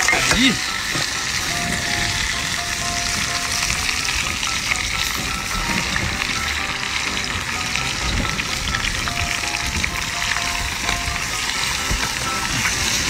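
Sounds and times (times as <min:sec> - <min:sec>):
seafood sizzling in a wok: 0:00.0 - 0:13.0.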